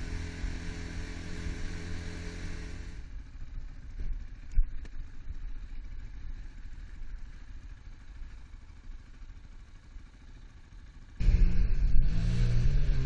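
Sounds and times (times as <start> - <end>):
motorcycle engine idling: 0.0 - 12.2.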